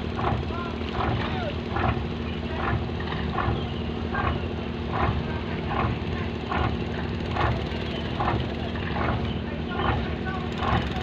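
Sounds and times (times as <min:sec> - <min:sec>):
boat engine pulsing: 0:00.0 - 0:11.0.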